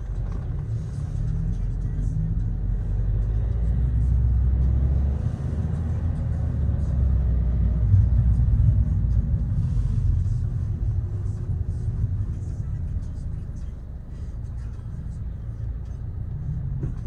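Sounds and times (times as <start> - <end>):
car driving in traffic: 0.0 - 17.0.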